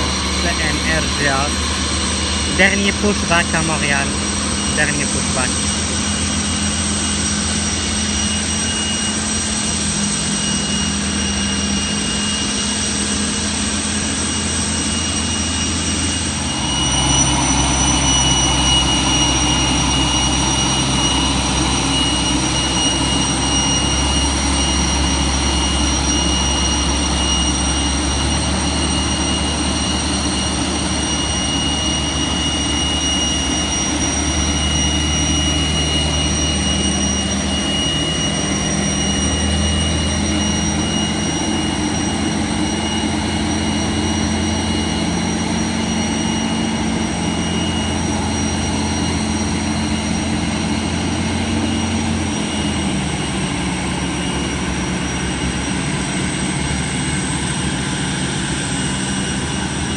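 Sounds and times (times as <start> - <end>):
jet turbine whine: 0.0 - 59.9.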